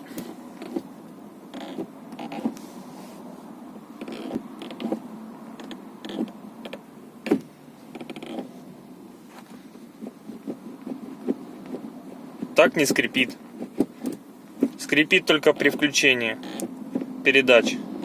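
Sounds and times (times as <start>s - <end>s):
gear shift lever creaking: 0.0s - 2.7s, 4.0s - 8.7s, 9.3s - 17.2s.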